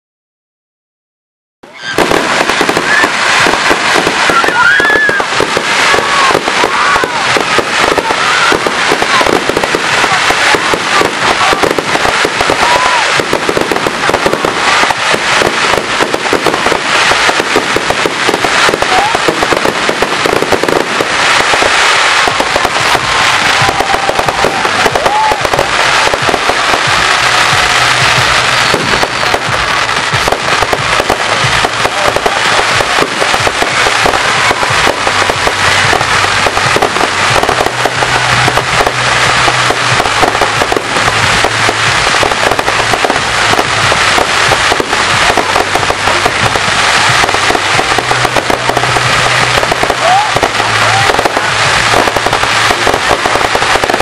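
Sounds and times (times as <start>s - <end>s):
fireworks cracking and banging: 1.6s - 54.0s.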